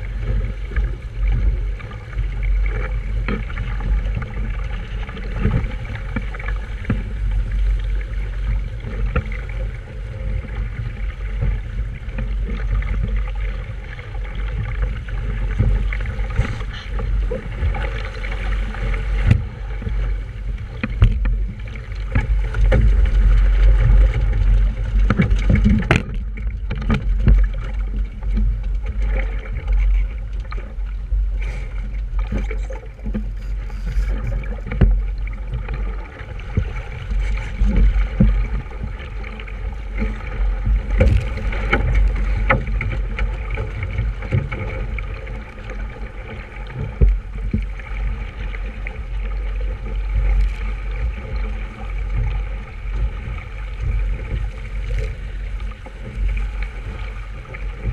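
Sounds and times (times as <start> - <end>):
rushing water: 0.0 - 57.9
wind on microphone: 0.0 - 57.9.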